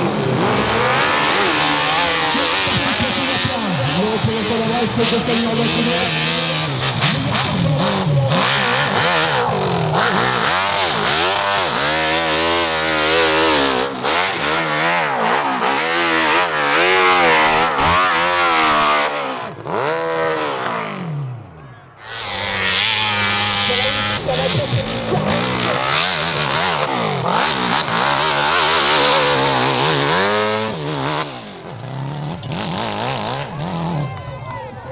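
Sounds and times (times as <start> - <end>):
dirt bike engine revving: 0.0 - 34.1.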